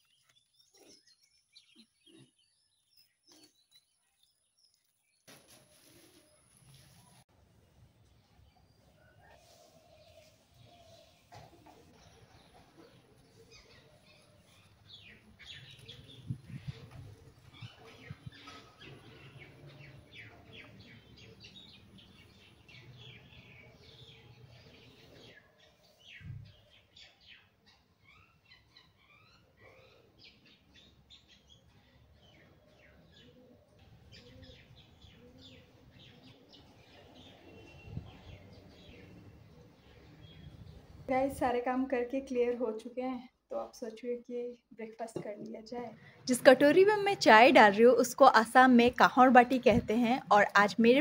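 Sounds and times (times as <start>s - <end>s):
faint birds chirping: 0.0s - 51.0s.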